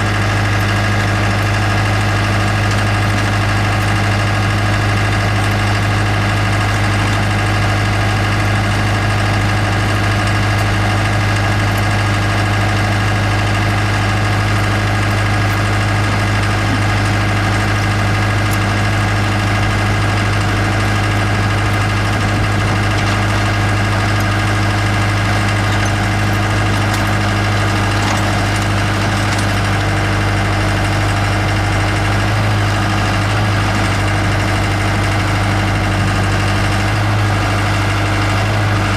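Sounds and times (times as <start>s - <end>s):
loader engine running steadily: 0.0s - 38.9s.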